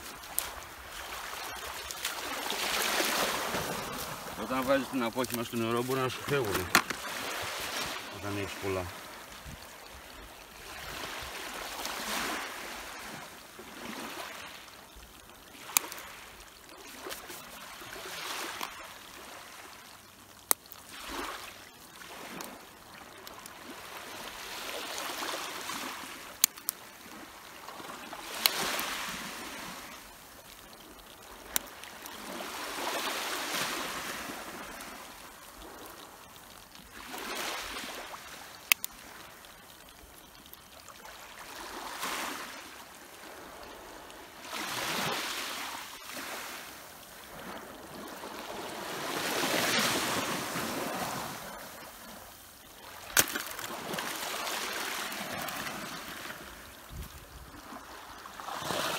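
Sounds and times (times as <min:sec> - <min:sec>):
small waves washing in: 0:00.0 - 0:58.9.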